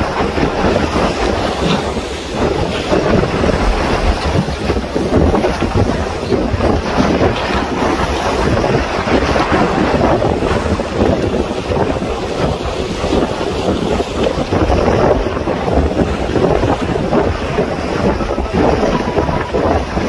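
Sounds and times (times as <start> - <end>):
wash of high waves: 0.0 - 20.0
wind buffeting microphone: 0.0 - 20.0.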